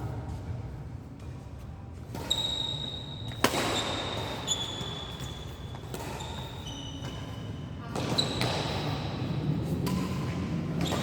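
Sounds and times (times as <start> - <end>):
racket hitting shuttlecock: 2.0 - 11.0
shoes squeaking on court floor: 2.0 - 11.0.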